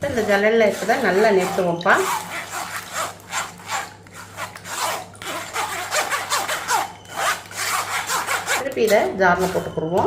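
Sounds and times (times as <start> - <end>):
pulp scraped against mesh sieve: 0.0 - 8.7.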